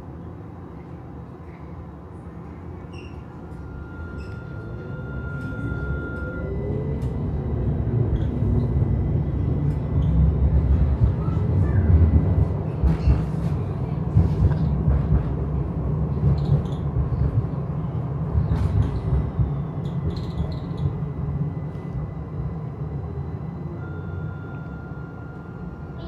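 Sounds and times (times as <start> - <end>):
tram wheels rumbling on rail: 0.0 - 26.0.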